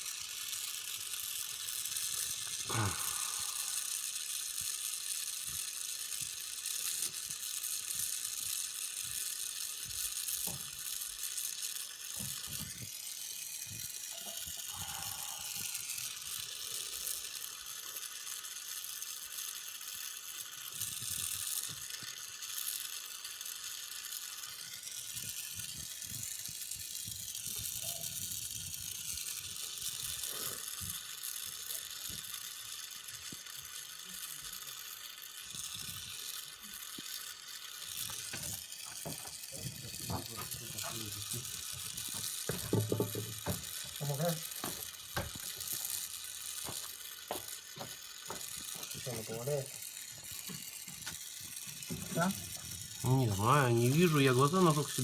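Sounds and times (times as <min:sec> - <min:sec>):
gas torch flame hissing: 0:00.0 - 0:55.0.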